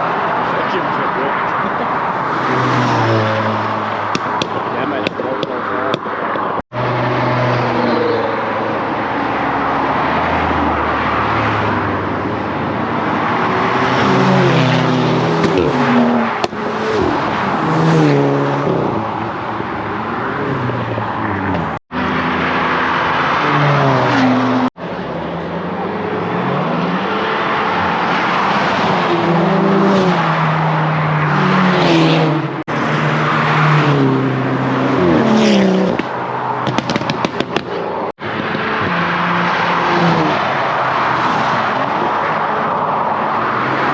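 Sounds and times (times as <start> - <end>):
car engines revving: 0.0 - 43.9
tyre and exhaust rush: 0.0 - 43.9.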